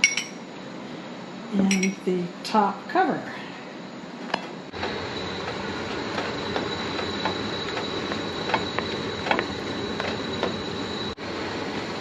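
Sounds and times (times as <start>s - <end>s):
thin high whine: 0.0s - 12.0s.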